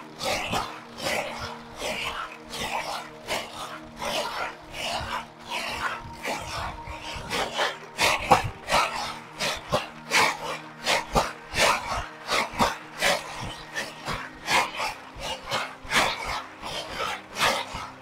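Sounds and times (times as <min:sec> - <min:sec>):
nuts scrubbed against wicker: 0:00.0 - 0:18.0.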